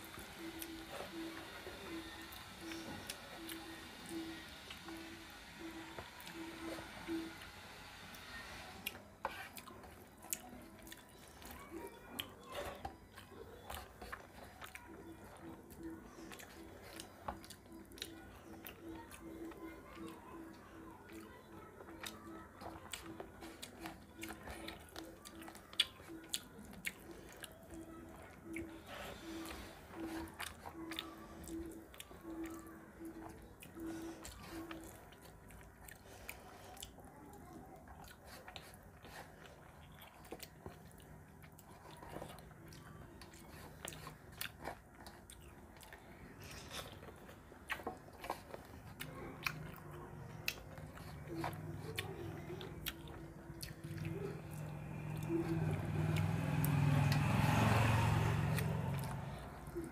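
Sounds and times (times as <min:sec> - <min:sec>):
chewing and mouth clicks: 0:08.3 - 0:59.9.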